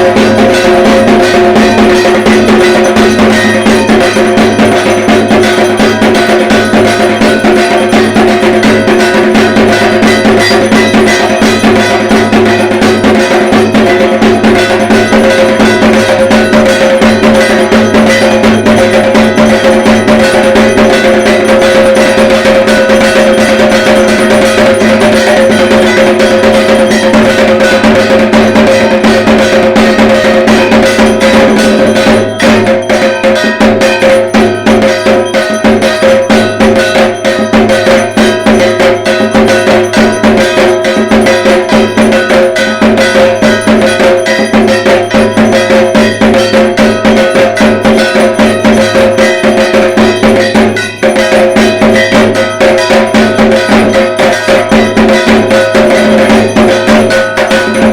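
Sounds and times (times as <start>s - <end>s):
fast drumming: 0.0s - 57.9s
ringing metallic beat: 0.0s - 57.9s.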